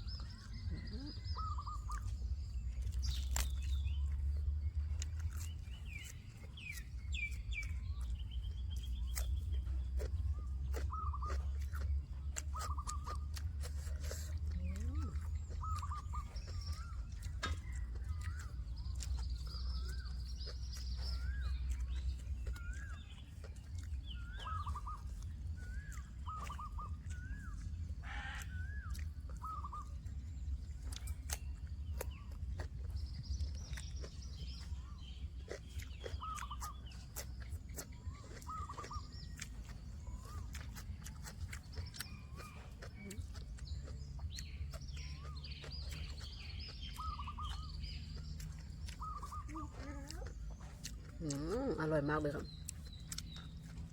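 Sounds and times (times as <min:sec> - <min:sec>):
birds chirping and warbling: 0:00.0 - 0:53.9
steady low rumble: 0:00.0 - 0:53.9.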